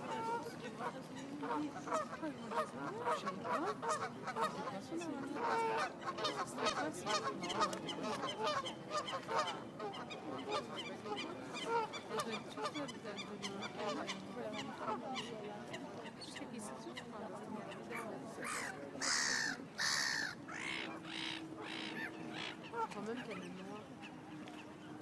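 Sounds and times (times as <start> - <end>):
flock of birds calling: 0.0 - 17.1, 17.7 - 25.0.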